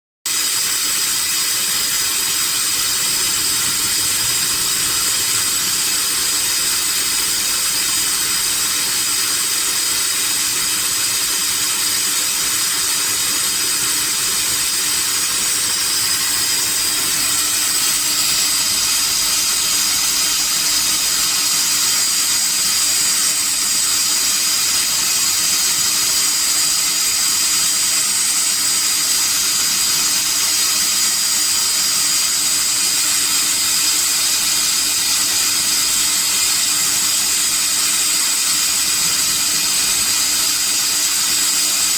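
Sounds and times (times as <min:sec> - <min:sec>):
high-pitched spindle whine: 0:00.3 - 0:41.9.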